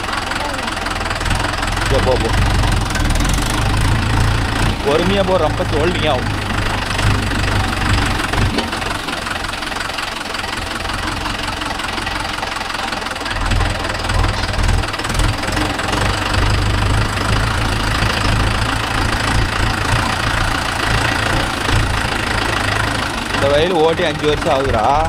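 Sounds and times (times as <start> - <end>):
tractor engine rumbling: 0.0 - 25.0.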